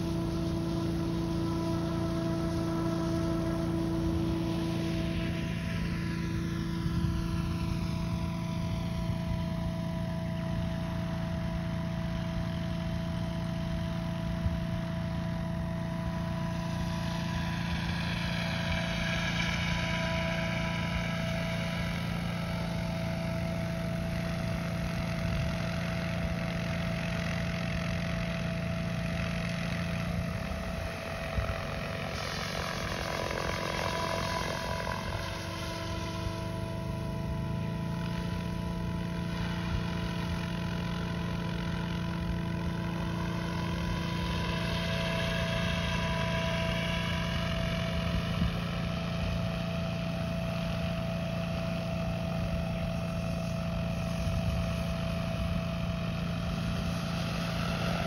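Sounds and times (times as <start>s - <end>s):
high whine: 0.0s - 58.0s
model helicopter rotor hum: 0.0s - 58.0s.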